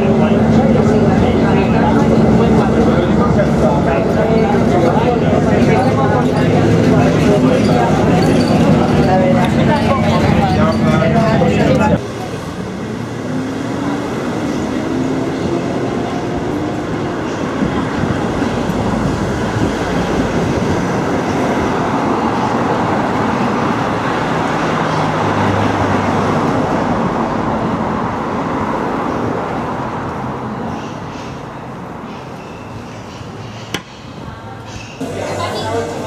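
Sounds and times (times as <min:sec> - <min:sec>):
moving vehicle noise: 0:00.0 - 0:36.0.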